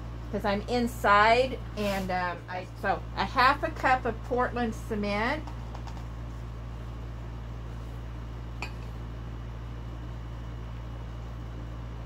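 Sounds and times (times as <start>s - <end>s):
window air conditioner hum: 0.0s - 12.0s.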